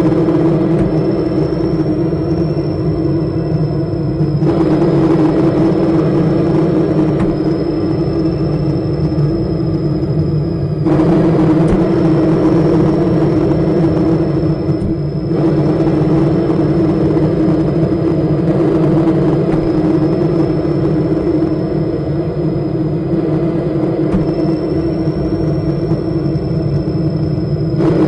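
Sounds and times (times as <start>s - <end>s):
thin high whine: 0.0s - 28.0s.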